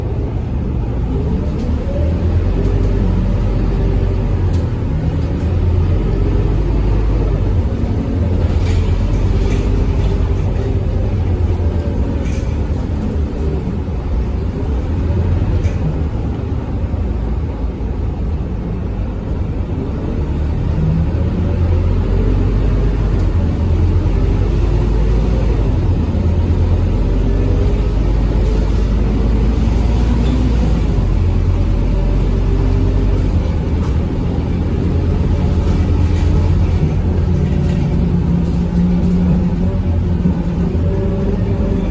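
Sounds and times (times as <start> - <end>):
bus diesel engine rumbling: 0.0 - 41.9.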